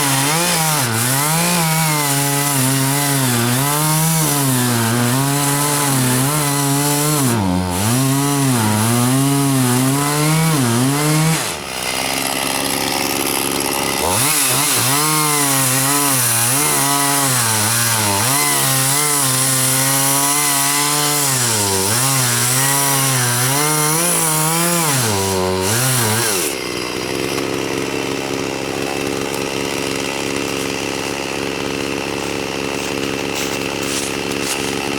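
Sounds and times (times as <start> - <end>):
chainsaw cutting: 0.0 - 34.9.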